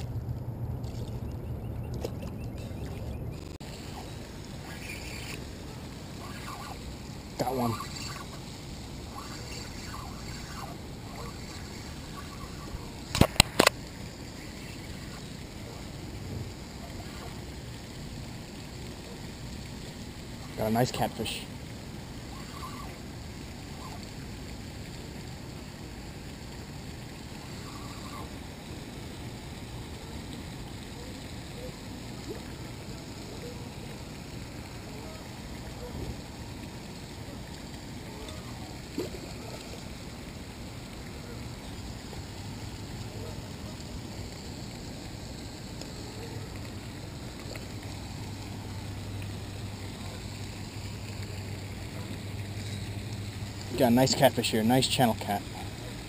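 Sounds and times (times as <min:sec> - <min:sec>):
constant low hum: 0:00.0 - 0:56.0
outdoor background noise: 0:00.0 - 0:56.0.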